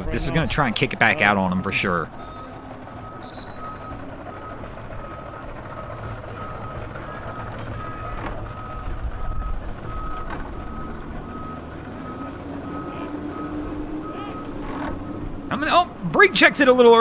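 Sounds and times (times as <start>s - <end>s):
reversing alarm beeps: 1.0s - 15.3s.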